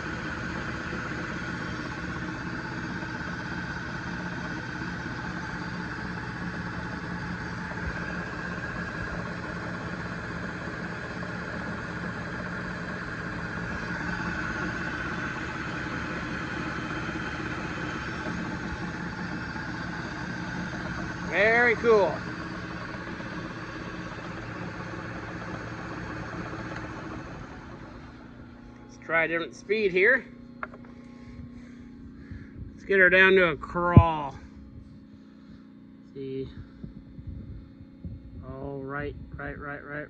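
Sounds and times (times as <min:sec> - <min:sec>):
machine hum: 0:00.0 - 0:39.3.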